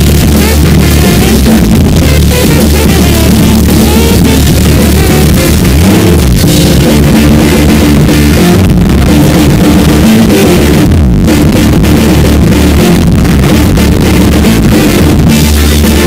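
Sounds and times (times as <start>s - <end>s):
distorted live band music: 0.0s - 16.0s
trombone playing: 0.0s - 16.0s.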